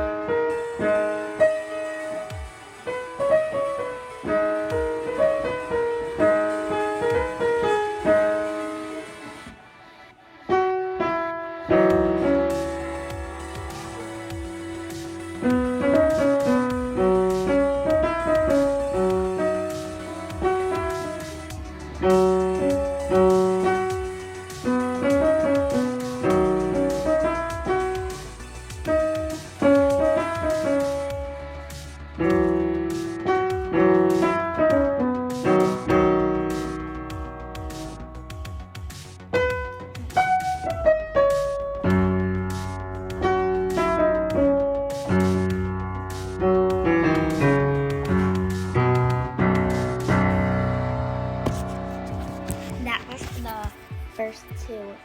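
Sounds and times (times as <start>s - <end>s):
piano notes and chords: 0.0s - 55.0s.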